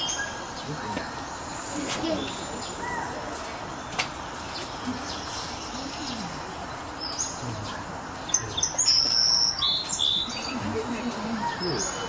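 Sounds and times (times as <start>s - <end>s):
songbird chirping: 0.0s - 12.0s
steady background noise: 0.0s - 12.0s.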